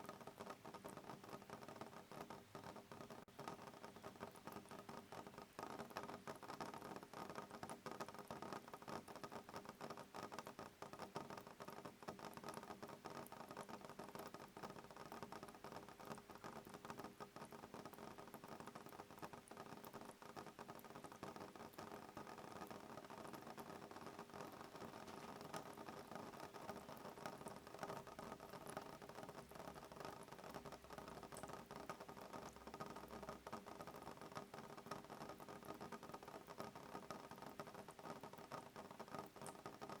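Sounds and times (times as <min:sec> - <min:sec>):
rain pattering on a window: 0:00.0 - 0:40.0.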